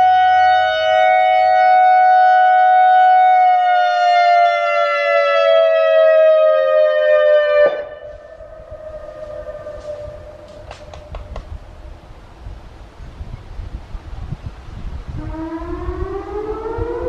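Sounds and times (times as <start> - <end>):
faint steady siren tone: 0.0 - 12.0, 15.1 - 17.0.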